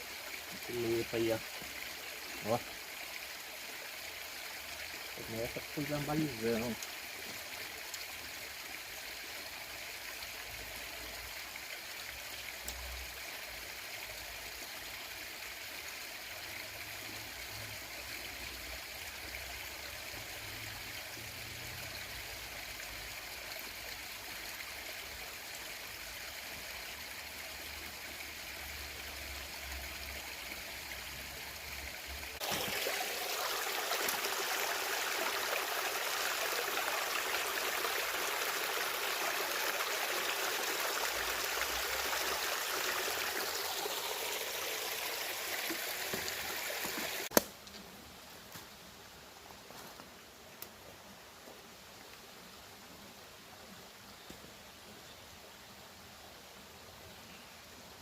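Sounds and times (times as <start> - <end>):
stream water rippling: 0.0 - 58.0.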